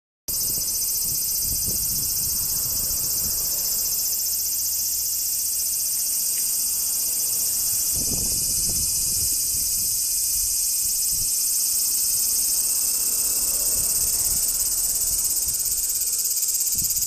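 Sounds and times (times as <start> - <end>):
cicada buzzing: 0.3 - 17.0.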